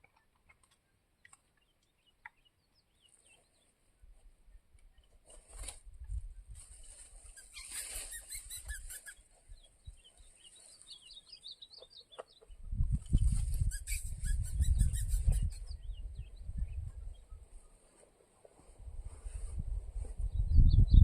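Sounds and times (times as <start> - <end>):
small birds chirping: 0.1 - 18.1, 20.2 - 21.0.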